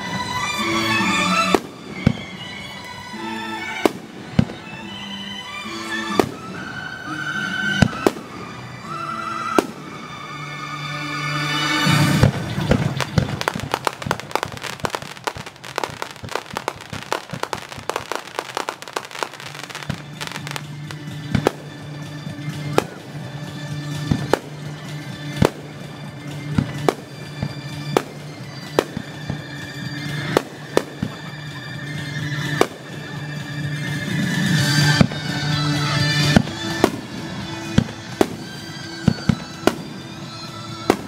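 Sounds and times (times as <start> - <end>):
firework bangs: 0.0 - 5.3, 6.0 - 10.3, 11.8 - 31.4, 32.4 - 33.4, 34.0 - 41.0
fireworks crackling and popping: 0.0 - 10.5, 11.6 - 41.0
music with held tones: 0.0 - 41.0.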